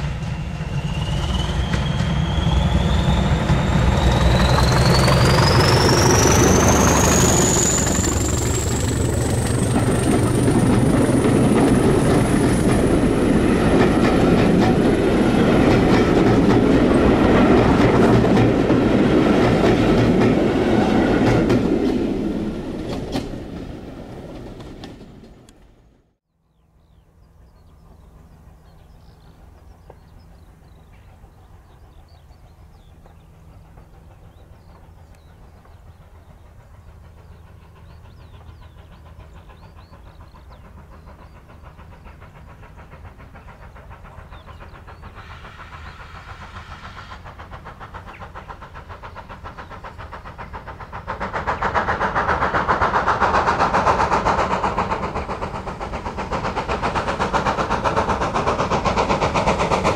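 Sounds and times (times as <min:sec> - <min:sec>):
steam locomotive exhaust beats: 0:00.0 - 0:25.6, 0:26.9 - 0:59.9
rolling rail noise: 0:00.0 - 0:59.9.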